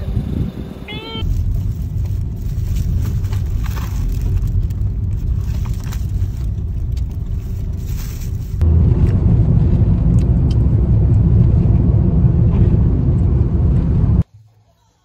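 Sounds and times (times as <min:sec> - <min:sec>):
car road noise rumble: 0:00.0 - 0:14.3.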